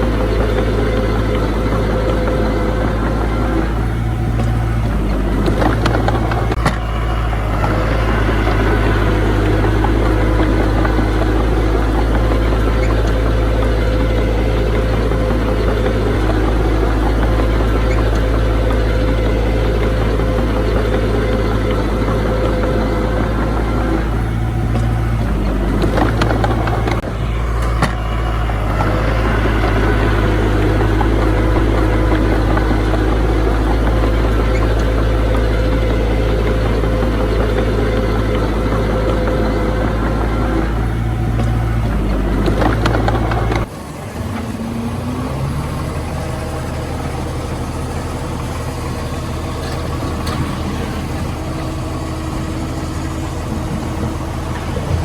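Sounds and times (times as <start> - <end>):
diesel machinery engine rumble: 0.0 - 55.0.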